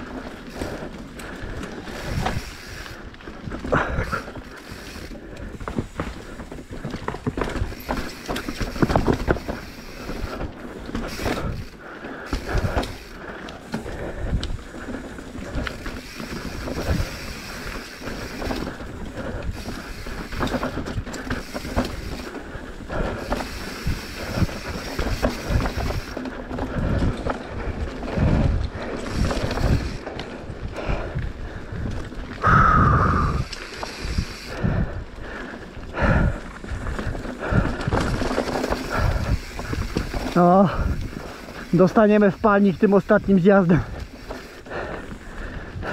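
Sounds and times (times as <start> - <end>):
bike rattling over bumps: 0.0 - 45.9
tyres rolling over dirt and stones: 0.0 - 45.9.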